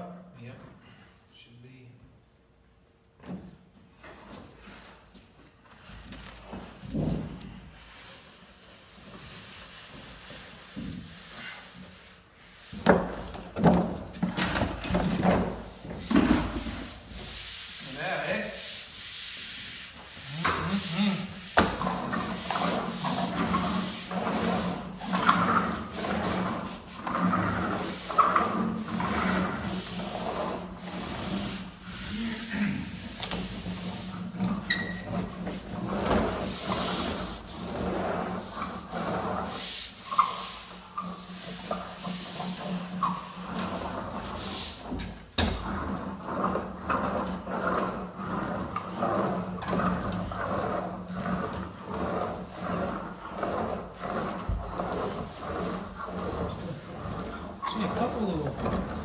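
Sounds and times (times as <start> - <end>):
roller rubbing over laminate: 4.0 - 59.0.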